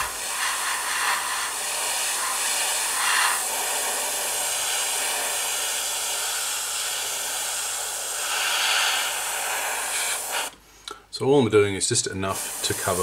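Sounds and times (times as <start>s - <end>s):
airbrush hissing: 0.0s - 10.6s, 12.2s - 13.0s.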